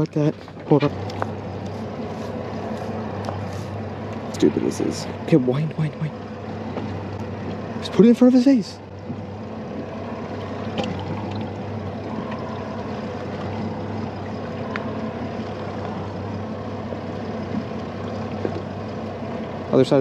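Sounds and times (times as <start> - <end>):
boat motor humming: 0.0 - 20.0
water sloshing against hull: 0.0 - 20.0.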